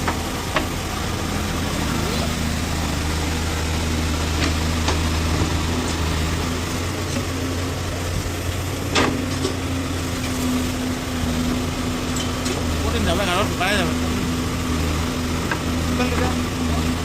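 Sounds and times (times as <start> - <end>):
diesel engine running: 0.0 - 17.0
higher hum: 0.0 - 17.0.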